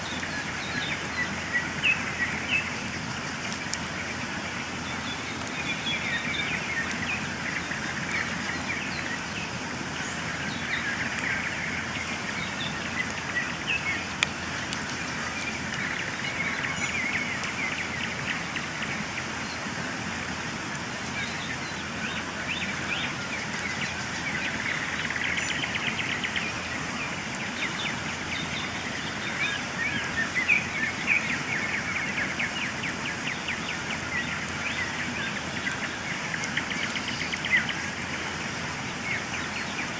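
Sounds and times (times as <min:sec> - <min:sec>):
birds singing and chirping: 0:00.0 - 0:39.9
campfire crackling: 0:00.0 - 0:39.9.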